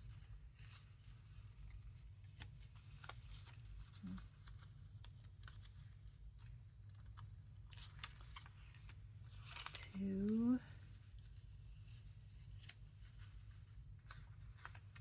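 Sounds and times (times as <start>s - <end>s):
low room hum: 0.0s - 15.0s
paper cards rustling and clicking: 0.0s - 15.0s.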